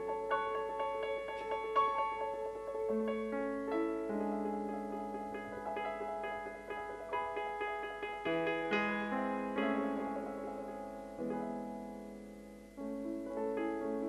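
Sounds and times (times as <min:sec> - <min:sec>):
piano playing slow chords: 0:00.0 - 0:14.0.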